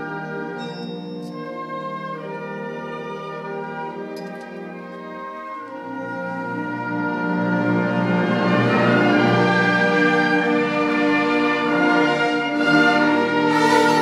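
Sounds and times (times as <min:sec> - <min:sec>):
wind band playing sustained chords: 0:00.0 - 0:14.0.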